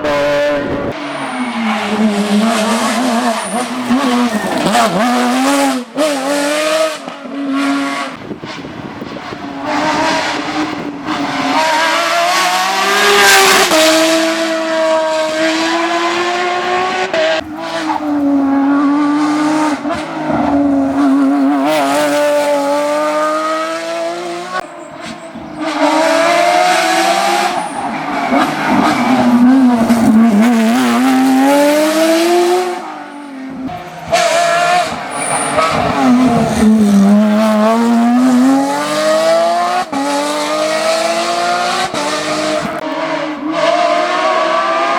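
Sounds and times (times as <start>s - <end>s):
rally car engine at full throttle: 0.0s - 44.9s.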